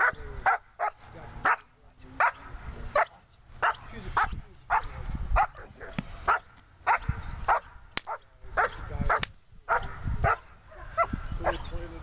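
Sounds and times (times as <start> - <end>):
dog barking: 0.0 - 11.6.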